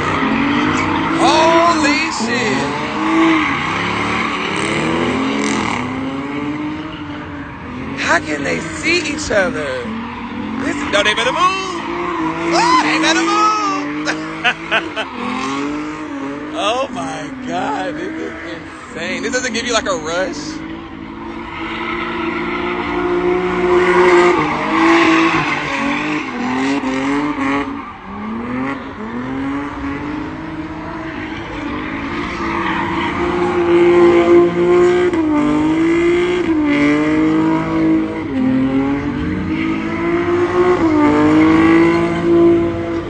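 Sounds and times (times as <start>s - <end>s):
car engine revving: 0.0s - 43.0s
tyres squealing on asphalt: 0.0s - 43.0s.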